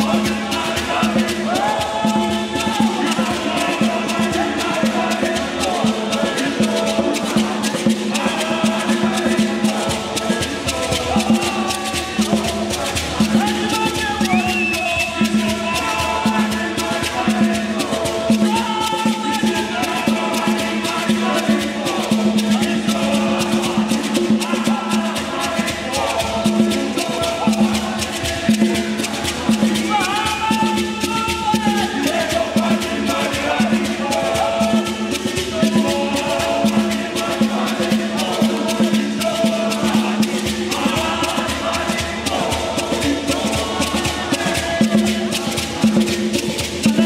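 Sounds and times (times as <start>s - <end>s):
gourd shakers rattling: 0.0s - 47.0s
male group singing in harmony: 0.0s - 47.0s.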